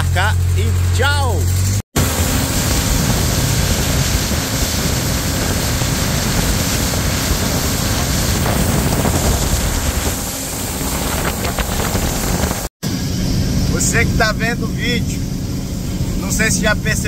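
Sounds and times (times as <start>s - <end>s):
boat motor running: 0.0s - 17.0s
rush of wind and water: 2.0s - 17.0s.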